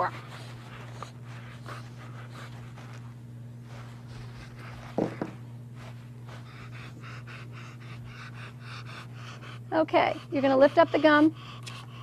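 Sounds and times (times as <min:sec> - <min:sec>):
dog panting: 0:00.0 - 0:12.0
steady low hum: 0:00.0 - 0:12.0.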